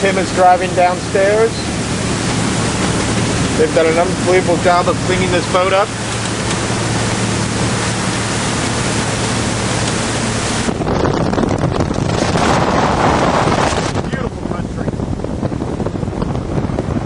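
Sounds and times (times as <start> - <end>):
diesel engine drone: 0.0 - 16.0
water noise: 0.0 - 17.0
wind rushing over microphone: 0.0 - 17.0.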